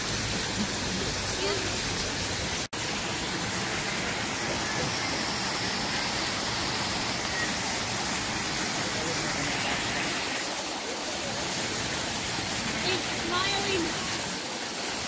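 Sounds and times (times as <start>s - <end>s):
water rushing into pool: 0.0s - 15.0s.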